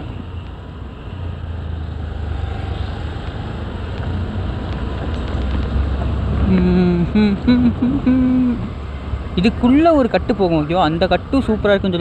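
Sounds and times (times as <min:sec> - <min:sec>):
tyres on road: 0:00.0 - 0:12.0.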